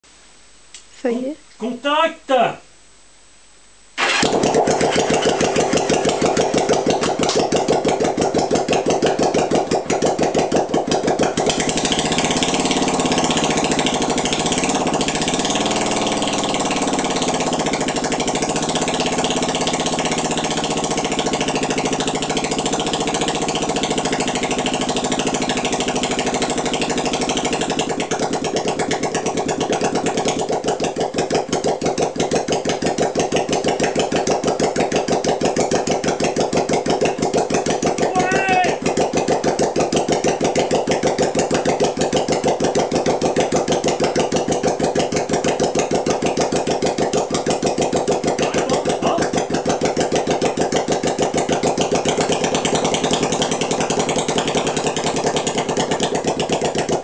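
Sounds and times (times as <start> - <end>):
motorcycle engine idling and revving: 4.0 - 57.0.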